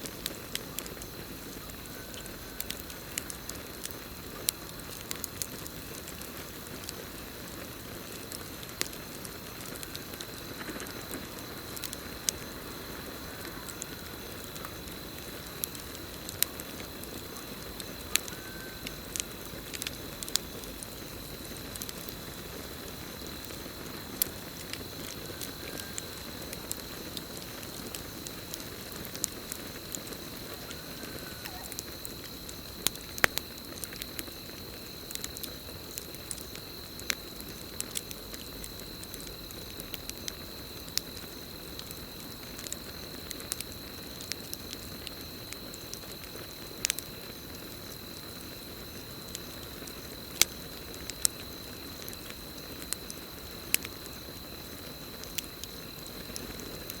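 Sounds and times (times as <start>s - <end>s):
campfire crackling: 0.0s - 57.0s
crickets trilling: 0.0s - 57.0s.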